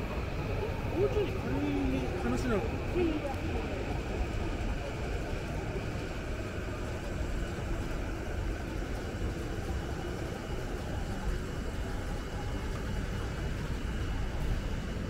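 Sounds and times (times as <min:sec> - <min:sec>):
city street rumble: 0:00.0 - 0:15.0.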